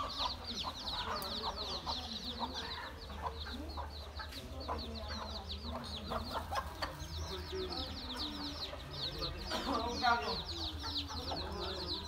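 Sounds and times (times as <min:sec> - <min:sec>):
baby chicks peeping: 0:00.0 - 0:12.0
hen clucking: 0:00.0 - 0:12.0.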